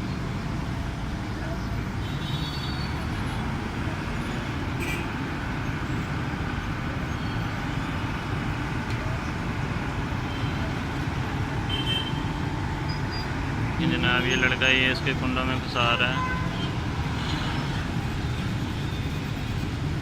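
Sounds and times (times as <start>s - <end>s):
heavy vehicle engines rumbling: 0.0s - 20.0s
road traffic: 0.0s - 20.0s.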